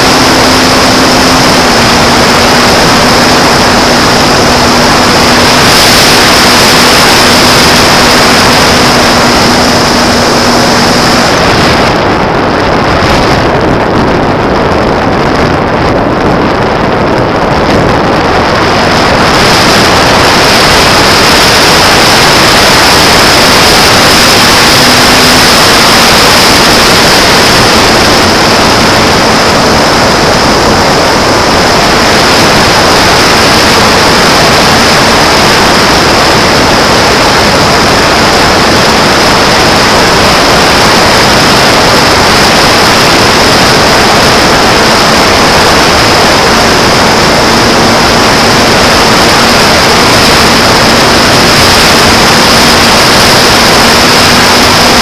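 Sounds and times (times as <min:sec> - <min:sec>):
electric motor and propeller whine: 0:00.0 - 0:55.0
wind rushing over microphone: 0:00.0 - 0:55.0.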